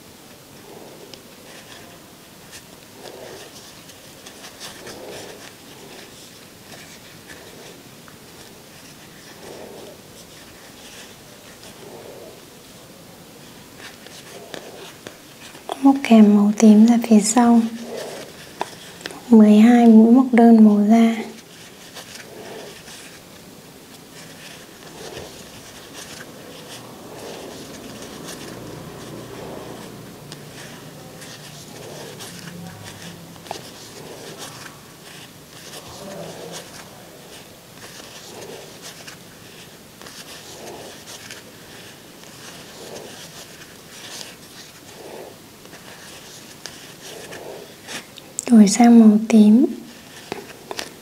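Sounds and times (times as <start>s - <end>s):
crochet hook and yarn rustling: 0.6s - 12.4s, 13.4s - 51.0s.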